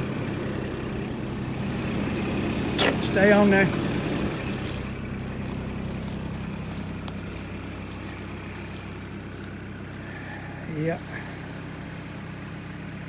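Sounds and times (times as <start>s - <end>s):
irrigation pump humming: 0.0s - 13.0s.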